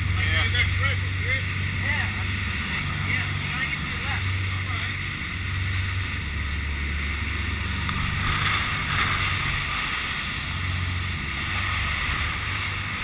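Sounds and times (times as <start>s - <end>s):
boat engines droning: 0.0s - 13.0s.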